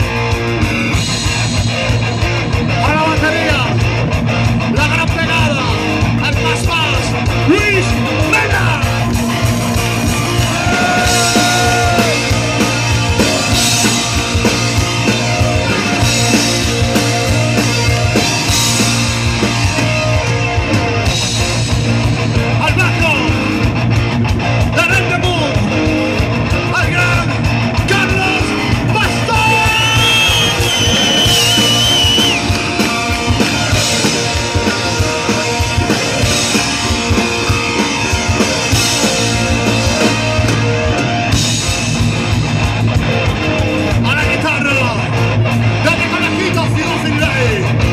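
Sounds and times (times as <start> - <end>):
bass guitar: 0.0 - 47.9
drum kit: 0.0 - 47.9
electric guitars: 0.0 - 47.9.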